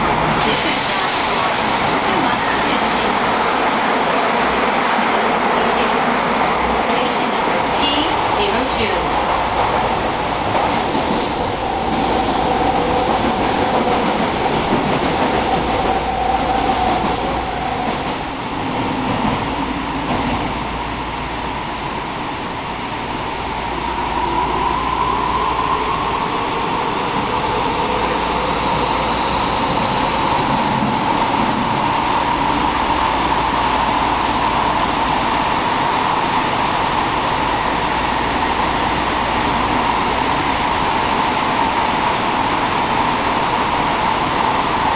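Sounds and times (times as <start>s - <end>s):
rumble of train wheels on rails: 0.0s - 44.9s.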